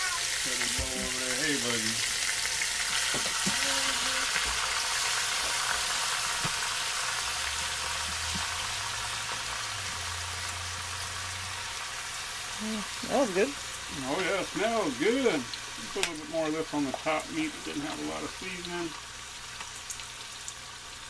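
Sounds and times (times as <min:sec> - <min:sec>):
meat searing in hot oil: 0:00.0 - 0:21.0.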